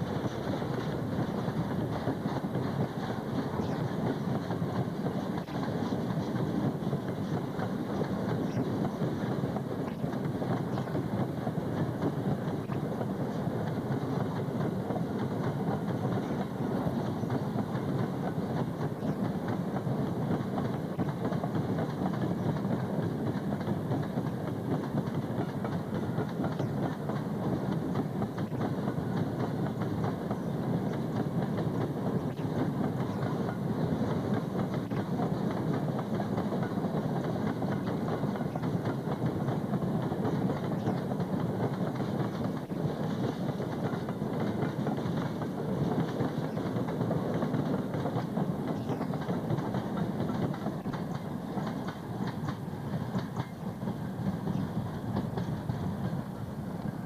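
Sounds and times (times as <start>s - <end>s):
train wheels rumbling on rails: 0.0s - 57.0s
wheels clicking over rail joints: 0.0s - 57.0s.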